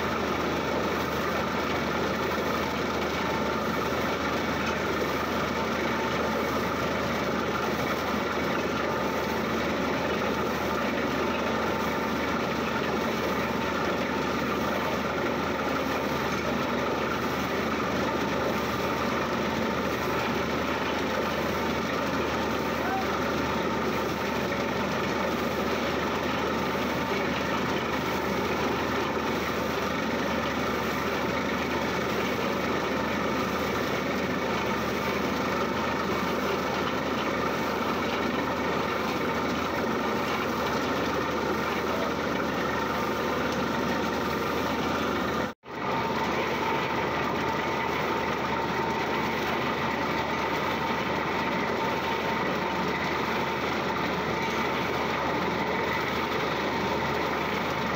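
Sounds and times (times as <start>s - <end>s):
drilling rig drilling: 0.0s - 57.9s.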